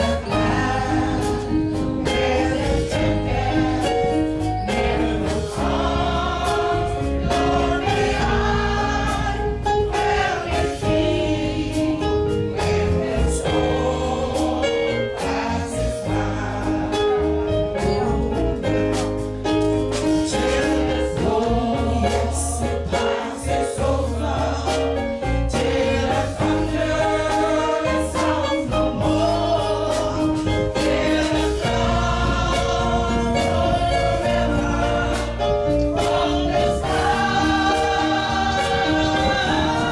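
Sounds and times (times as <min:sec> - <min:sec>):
band with bass and beat: 0:00.0 - 0:39.9
gospel choir singing: 0:00.0 - 0:39.9.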